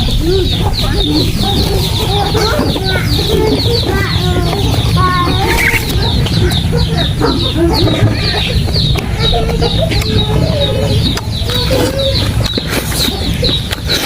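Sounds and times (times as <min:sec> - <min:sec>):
chickens clucking: 0:00.0 - 0:14.0
steady low hum: 0:00.0 - 0:14.0.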